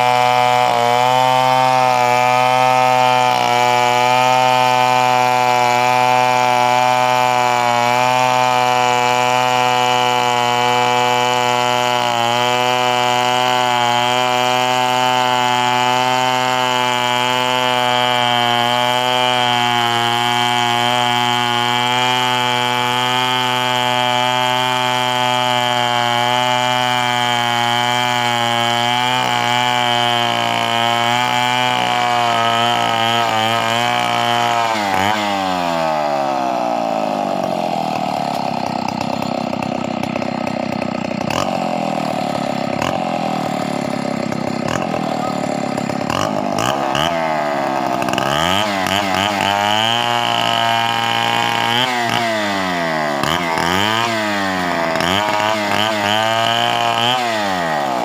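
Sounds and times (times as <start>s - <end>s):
chainsaw running at high revs: 0.0s - 58.0s.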